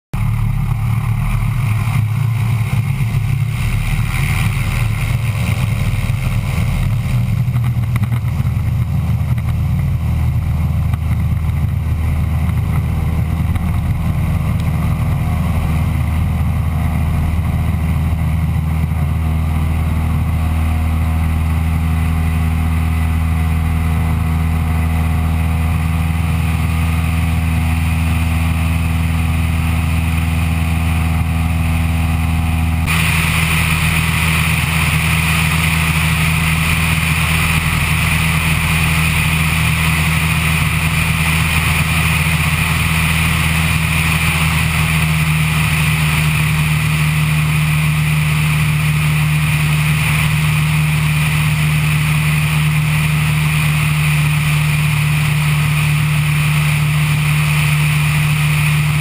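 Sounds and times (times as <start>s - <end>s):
propeller plane engine droning: 0.1s - 59.0s.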